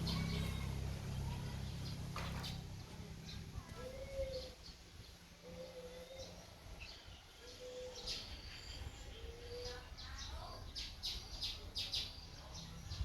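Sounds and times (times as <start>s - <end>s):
birds calling low notes: 0.0s - 11.2s.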